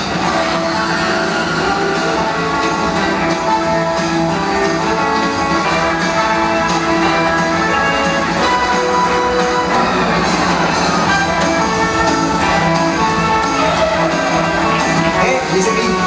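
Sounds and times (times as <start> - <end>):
guitar rock music: 0.0 - 16.0.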